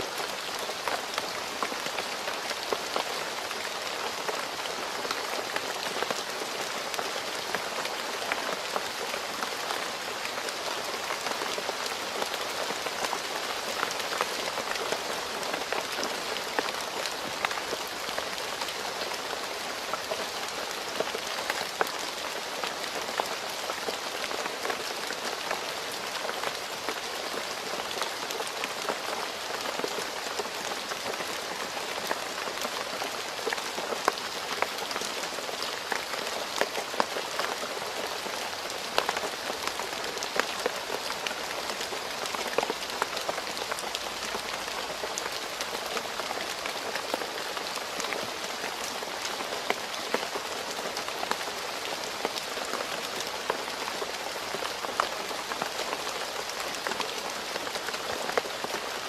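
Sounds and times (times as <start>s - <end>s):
rain hissing on road: 0.0s - 59.0s.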